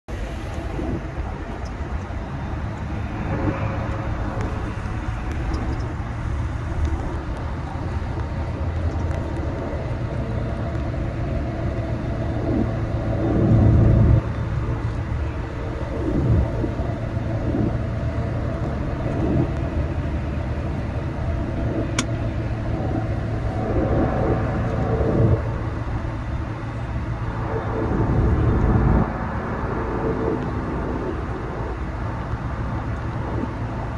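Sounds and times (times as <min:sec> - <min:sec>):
car engine and tyres rumbling: 0:00.0 - 0:33.9.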